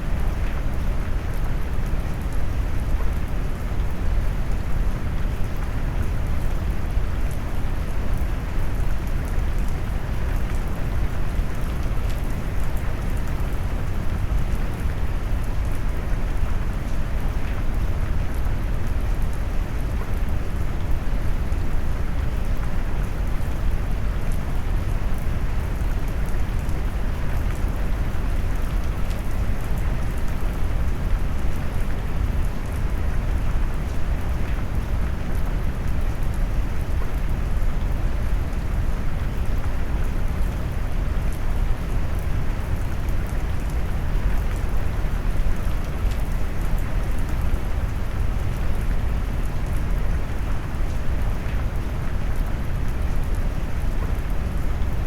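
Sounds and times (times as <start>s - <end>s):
rain noise: 0.0s - 55.0s.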